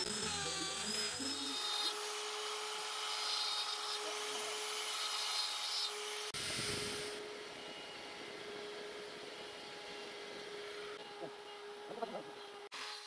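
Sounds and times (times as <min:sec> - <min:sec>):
angle grinder grinding wood: 0:00.0 - 0:13.0
rotary carving tool: 0:00.0 - 0:13.0.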